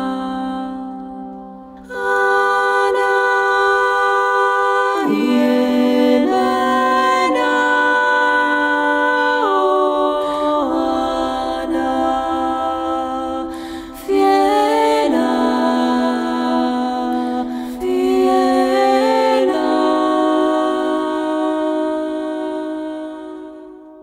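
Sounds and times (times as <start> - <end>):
slow calm background music: 0.0 - 24.0.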